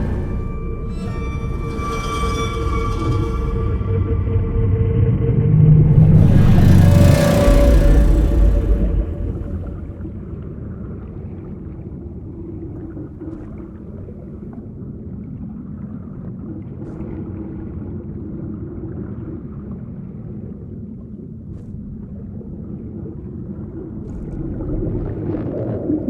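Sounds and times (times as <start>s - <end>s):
muffled underwater rumble: 2.6s - 26.0s.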